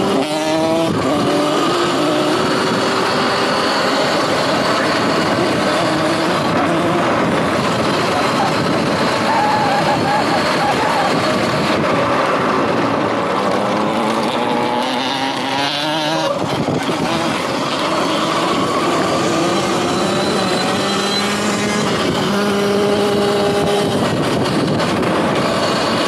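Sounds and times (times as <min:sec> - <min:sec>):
electric dirt bike whining: 0:00.0 - 0:26.0.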